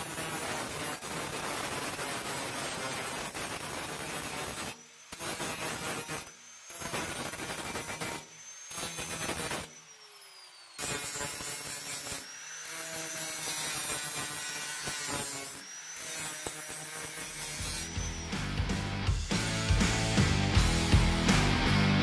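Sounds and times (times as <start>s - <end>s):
angle grinder cutting metal: 0.0s - 22.0s.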